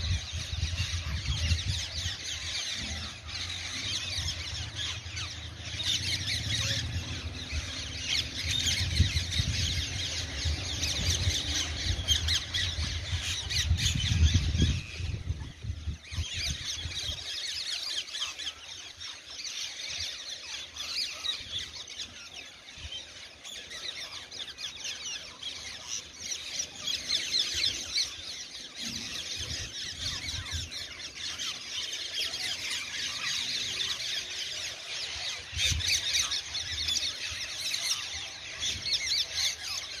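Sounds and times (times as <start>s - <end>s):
parakeet flock screeching: 0.0s - 40.0s.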